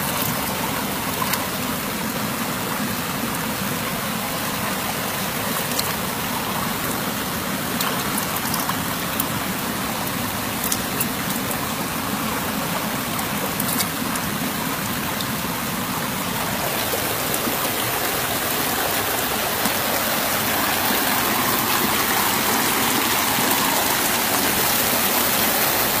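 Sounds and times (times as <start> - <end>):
small waterfall cascading: 0.0 - 26.0
water rushing over rocks: 0.0 - 26.0.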